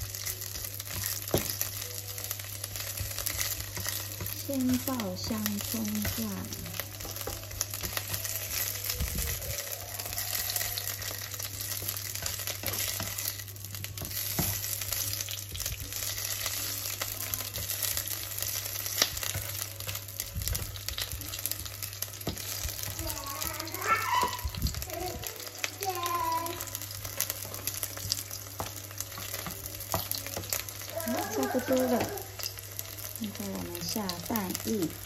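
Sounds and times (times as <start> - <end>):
scallions sizzling in hot oil: 0.0 - 35.0.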